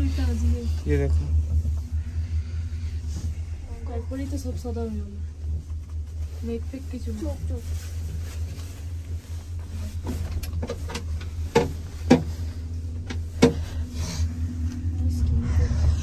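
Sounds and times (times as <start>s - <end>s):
cable car low hum: 0.0s - 16.0s.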